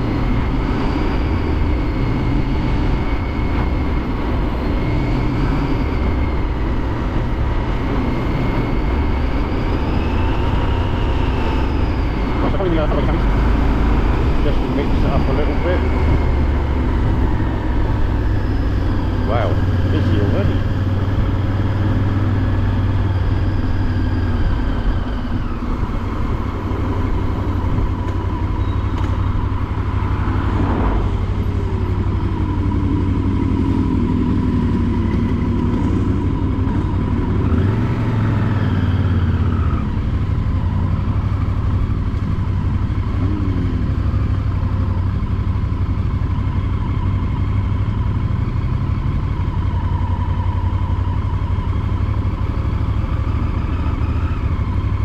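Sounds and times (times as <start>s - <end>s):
motorcycle engine running: 0.0s - 55.0s
motorcycles passing: 0.0s - 55.0s
vehicles passing: 0.0s - 55.0s.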